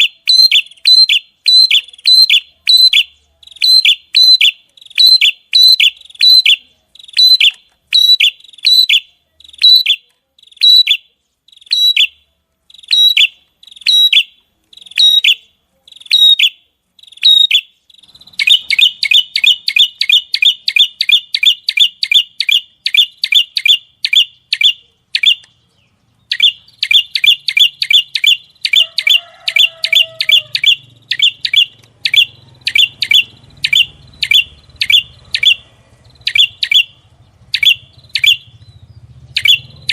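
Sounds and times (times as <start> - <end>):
small songbird singing: 0.0 - 39.9.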